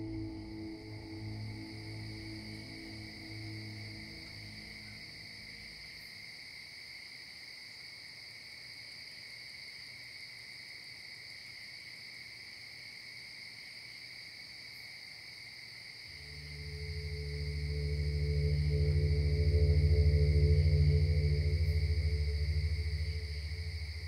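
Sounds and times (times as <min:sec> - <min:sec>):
insects chorus humming: 0:00.0 - 0:24.0.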